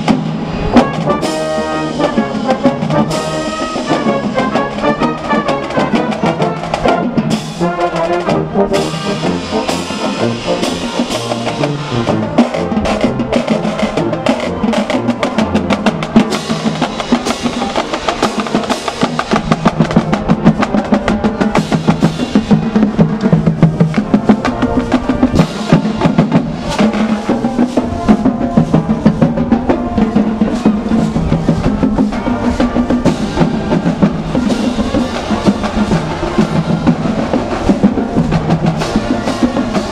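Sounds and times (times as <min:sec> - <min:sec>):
brass notes: 0:00.0 - 0:39.9
marching drum cadence: 0:00.0 - 0:39.9.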